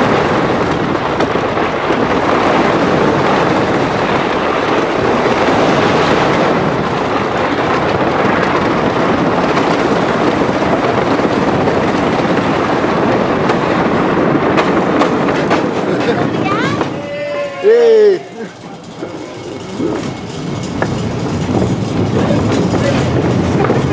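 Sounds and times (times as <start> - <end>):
roller coaster rattling rumble: 0.0 - 23.9
sharp clacks of roller coaster: 0.0 - 23.9
wind on microphone: 0.0 - 23.9.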